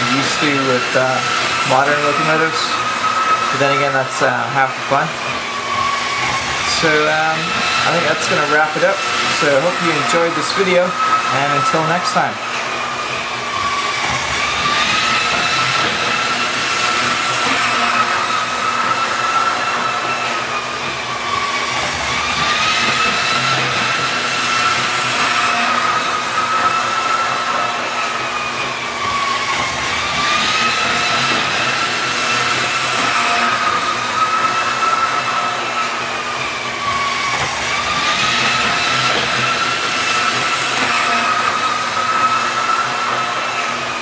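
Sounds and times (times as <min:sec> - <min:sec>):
model train electric motor whine: 0:00.0 - 0:44.0.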